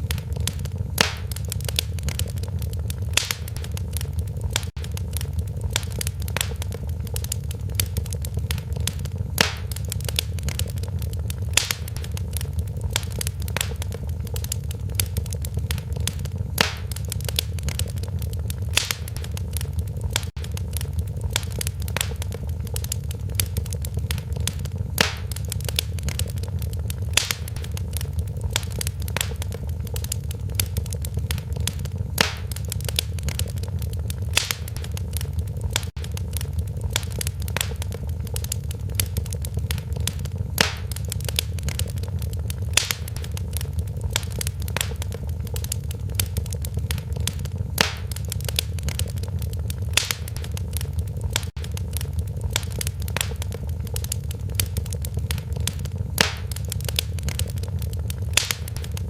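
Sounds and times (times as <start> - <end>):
fire crackling: 0.0 - 59.0
low rush of flames: 0.0 - 59.0
sharp fire pops: 0.0 - 59.0.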